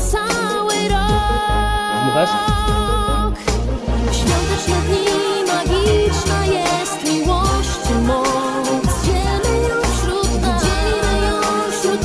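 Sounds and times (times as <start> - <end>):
christmas pop song: 0.0 - 12.0.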